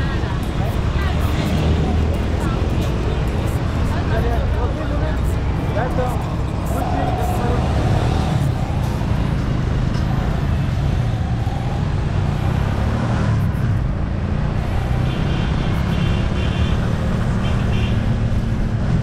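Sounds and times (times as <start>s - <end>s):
motorcycle engine and road rumble: 0.0s - 19.0s.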